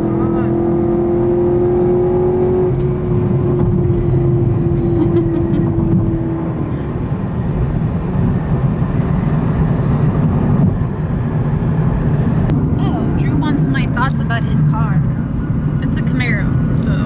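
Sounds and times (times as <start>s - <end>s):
car engine drone in cabin: 0.0s - 17.0s
engine and road rumble: 0.0s - 17.0s.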